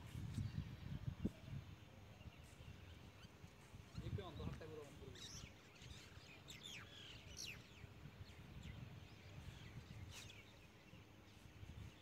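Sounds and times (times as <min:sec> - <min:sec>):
birds chirping: 0:00.3 - 0:12.0.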